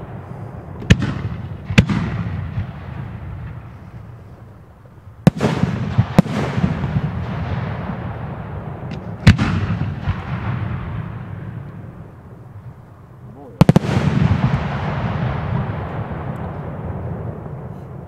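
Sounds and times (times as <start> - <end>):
fireworks bangs: 0.0 - 12.8, 13.4 - 18.0
fireworks crackling: 0.0 - 18.0
rumbling echo: 0.0 - 18.0.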